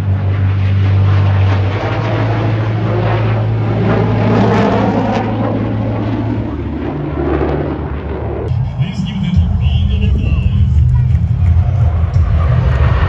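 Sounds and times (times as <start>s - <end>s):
jet engines roaring past: 0.0s - 13.0s.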